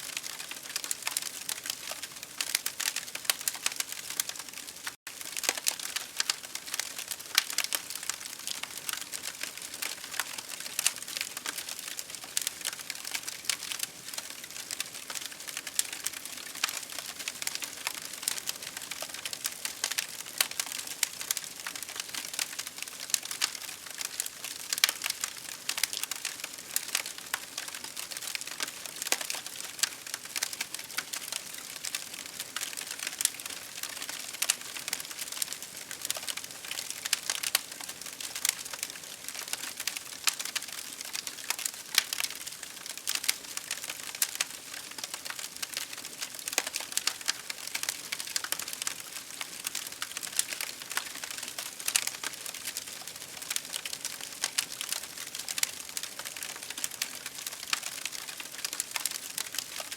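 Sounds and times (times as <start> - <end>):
wood fire crackling: 0.1 - 59.9.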